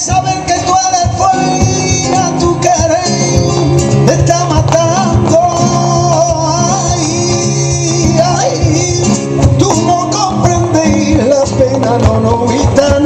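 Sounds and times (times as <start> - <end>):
acoustic guitars strumming: 0.0 - 13.0
man singing: 0.0 - 13.0.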